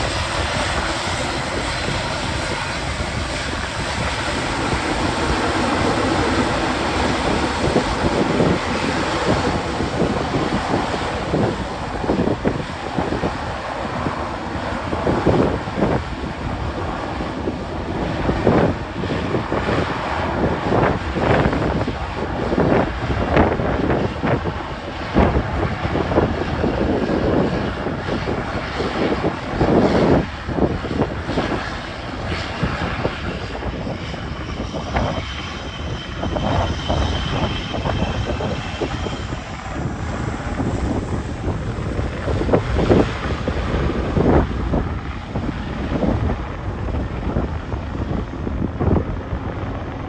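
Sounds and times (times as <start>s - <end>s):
jet engines whining: 0.0s - 50.0s
wind buffeting microphone: 0.0s - 50.0s.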